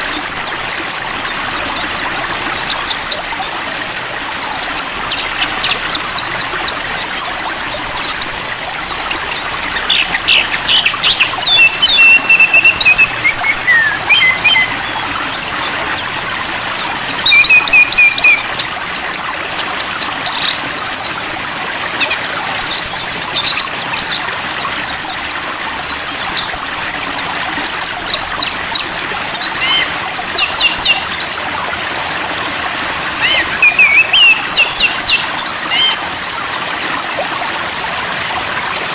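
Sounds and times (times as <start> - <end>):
songbird chirps and trills: 0.0 - 31.6, 32.9 - 36.9
flowing water rushing: 0.0 - 38.9.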